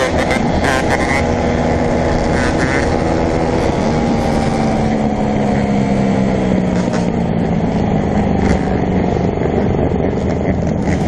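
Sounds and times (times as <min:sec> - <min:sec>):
dirt bike engine running: 0:00.0 - 0:11.0
wind rumble: 0:00.0 - 0:11.0.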